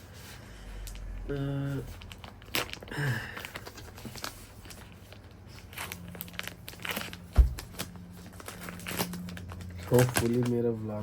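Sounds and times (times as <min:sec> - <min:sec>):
paper and plastic crinkling: 0:00.1 - 0:11.0.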